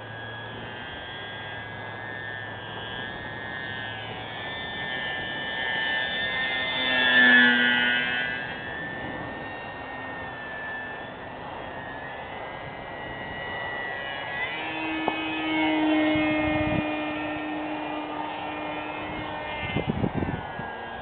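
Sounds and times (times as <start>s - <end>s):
model airplane motor whining: 0.0s - 21.0s.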